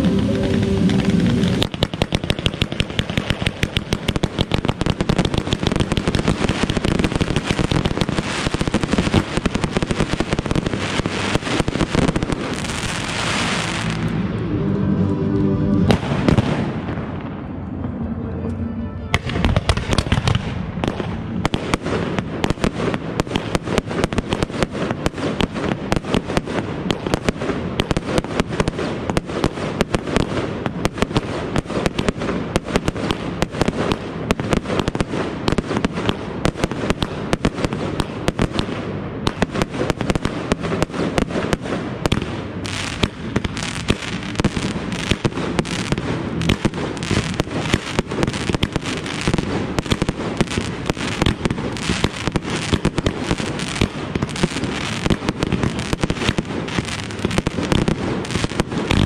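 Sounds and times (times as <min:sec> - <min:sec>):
fireworks crackling and banging: 0:00.0 - 0:15.1, 0:15.7 - 0:18.0, 0:19.1 - 0:59.0.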